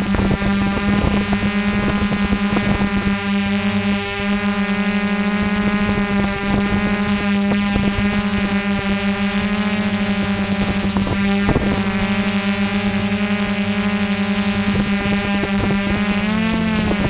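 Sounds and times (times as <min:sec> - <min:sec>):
drone motors buzzing: 0:00.0 - 0:17.0.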